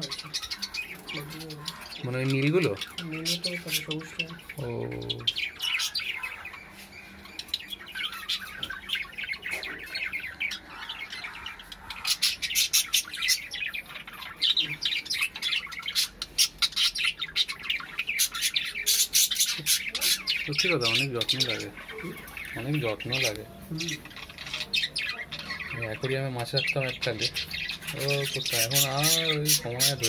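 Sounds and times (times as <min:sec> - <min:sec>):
budgerigars chirping and squawking: 0:00.0 - 0:30.0.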